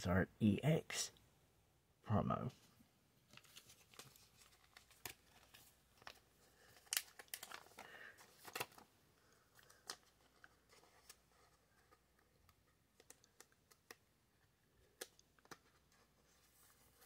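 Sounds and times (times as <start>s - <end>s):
plastic card sleeve rustling: 3.2s - 17.0s.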